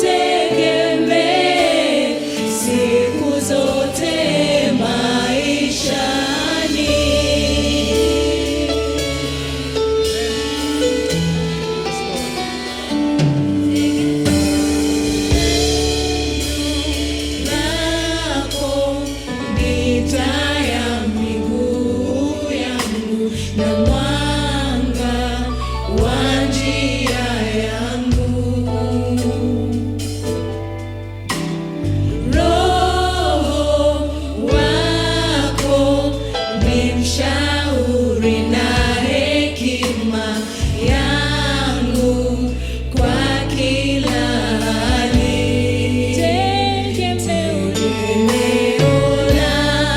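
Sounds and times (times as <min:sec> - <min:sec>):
choir singing gospel: 0:00.0 - 0:49.9
instrumental backing with bass: 0:00.0 - 0:49.9.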